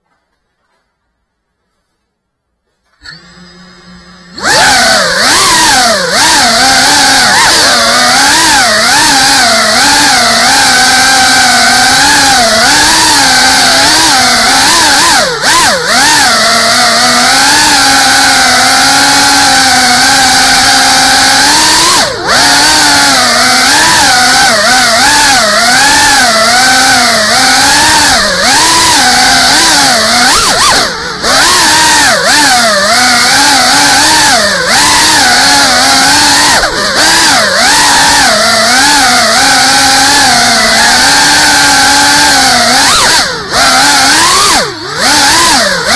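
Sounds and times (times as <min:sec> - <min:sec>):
drone motors whining: 0:02.8 - 0:45.9.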